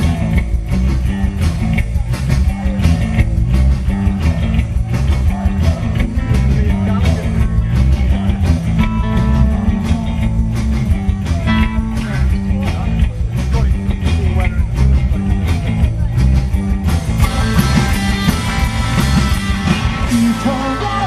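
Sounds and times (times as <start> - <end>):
bass guitar: 0.0 - 21.0
electric guitar: 0.0 - 21.0
steady drum beat: 0.0 - 21.0.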